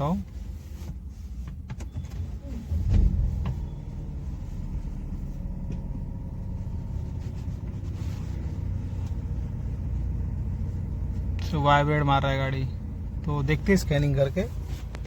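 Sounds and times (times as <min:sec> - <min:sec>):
car engine surging and idling roughly: 0:00.0 - 0:15.0.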